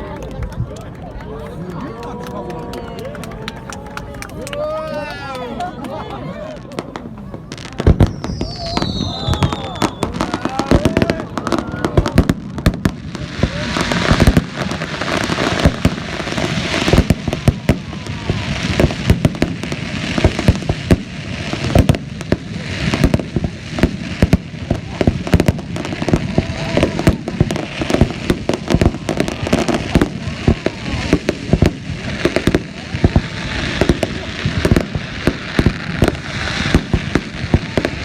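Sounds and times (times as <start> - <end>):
fireworks bursting with sharp bangs: 6.5 - 38.0
fireworks hiss: 7.0 - 38.0.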